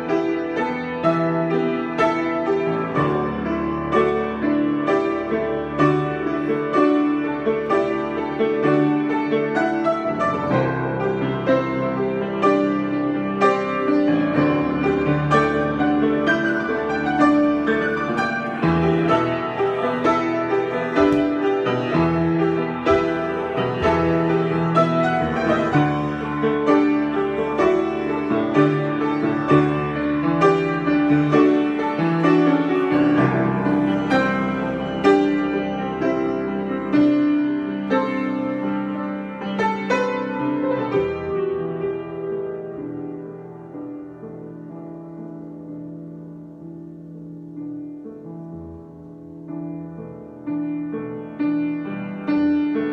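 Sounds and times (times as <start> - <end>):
solo piano: 0.0 - 52.9.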